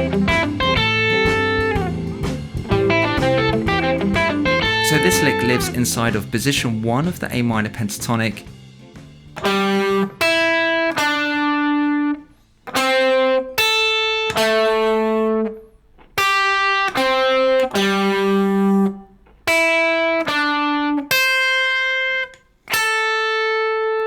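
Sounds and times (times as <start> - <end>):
guitar playing single notes: 3.0 - 24.0.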